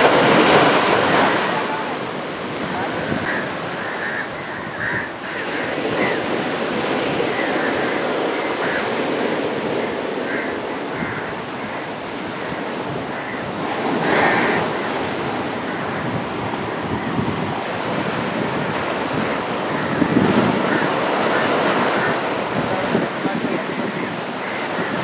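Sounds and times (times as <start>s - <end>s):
sea waves washing up beach: 0.0s - 25.0s
wind buffeting microphone: 0.0s - 25.0s.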